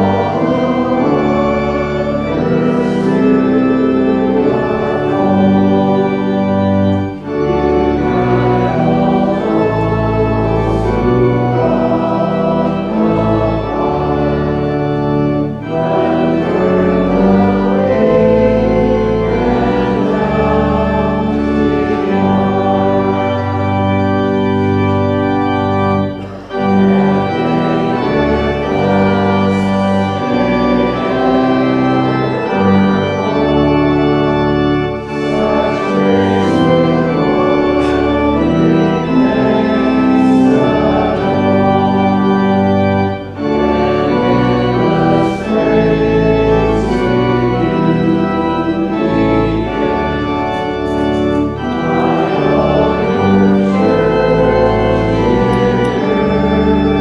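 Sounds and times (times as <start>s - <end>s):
church organ playing chords: 0.0s - 57.0s
congregation singing: 0.0s - 57.0s.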